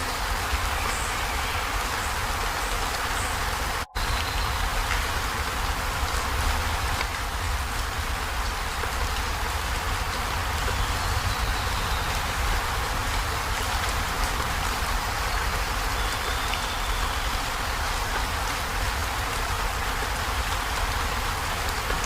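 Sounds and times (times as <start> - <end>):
heavy rain on a metal roof: 0.0 - 22.0.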